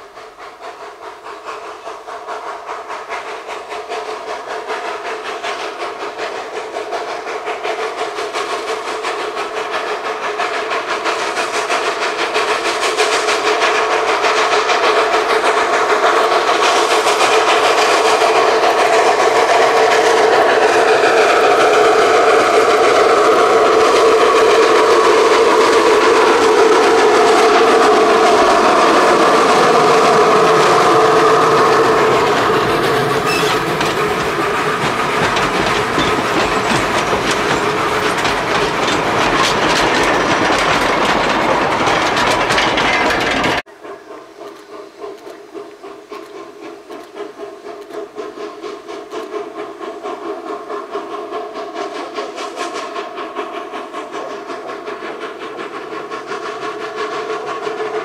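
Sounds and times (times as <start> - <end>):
steam locomotive exhaust chuffs: 0.0 - 58.0
train rolling by: 0.0 - 58.0.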